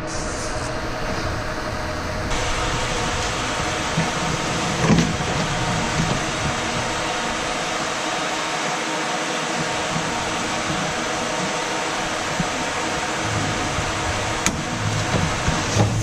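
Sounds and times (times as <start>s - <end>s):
mechanical whir with hum: 0.0s - 16.0s.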